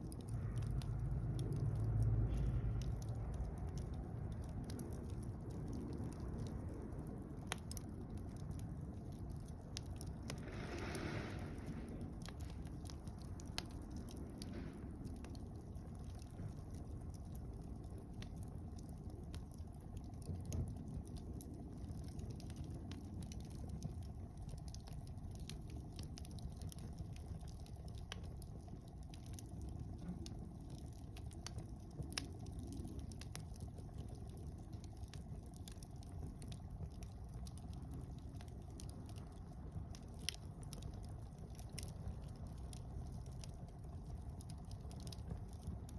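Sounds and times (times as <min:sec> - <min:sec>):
campfire flames rumbling: 0:00.0 - 0:45.9
fire crackling and popping: 0:00.0 - 0:45.9.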